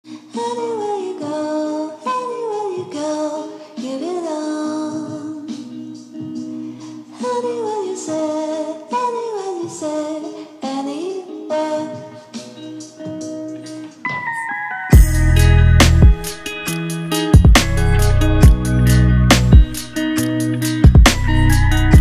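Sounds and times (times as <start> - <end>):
person singing a melody: 0.1 - 19.0
background music: 0.1 - 22.0.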